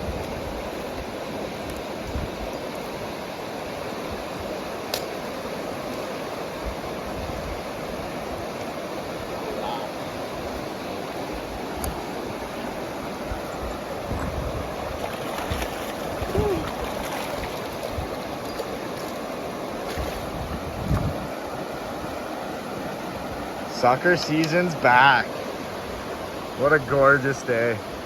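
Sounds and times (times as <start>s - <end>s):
flowing river water: 0.0s - 28.0s.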